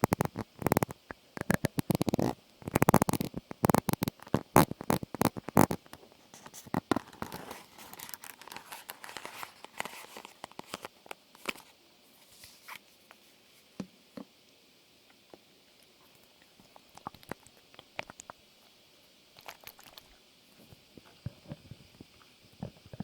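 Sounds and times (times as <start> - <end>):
soft scratching and crinkling: 0.0 - 13.8, 15.2 - 23.0.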